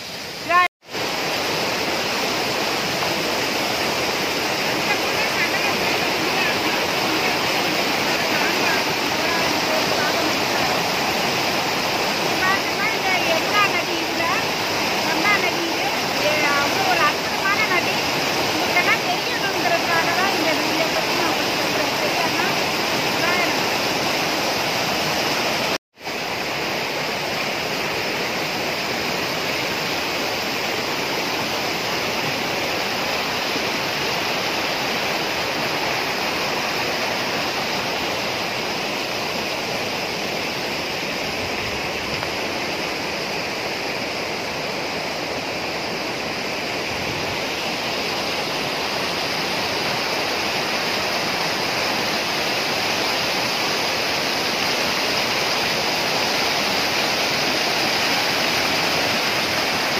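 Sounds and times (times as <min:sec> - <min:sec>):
mountain stream rushing over rocks: 0:00.0 - 0:59.9.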